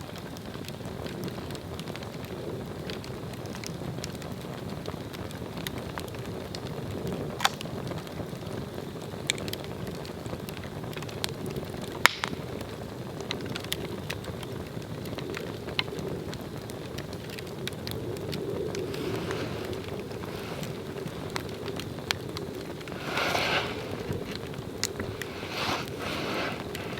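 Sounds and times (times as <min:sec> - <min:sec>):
fire crackles and pops: 0:00.0 - 0:26.9
log fire rushing: 0:00.0 - 0:26.9.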